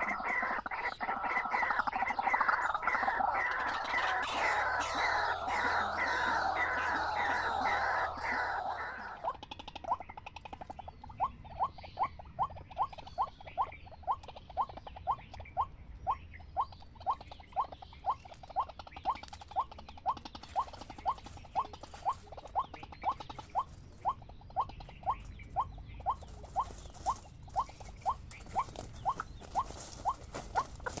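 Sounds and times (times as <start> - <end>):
waterhen calling: 0.0 - 31.0.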